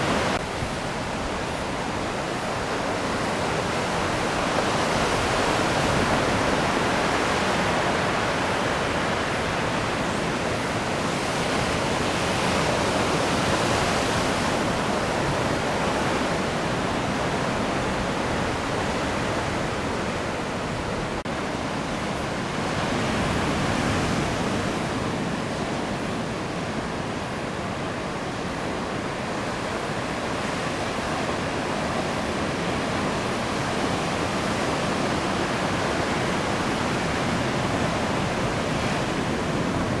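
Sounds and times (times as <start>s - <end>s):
heavy surf roaring: 0.0s - 40.0s.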